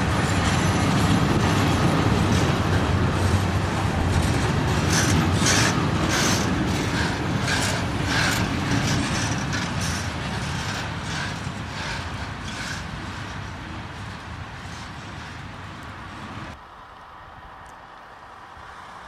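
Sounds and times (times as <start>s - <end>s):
train wagons rolling rumble: 0.0s - 19.0s.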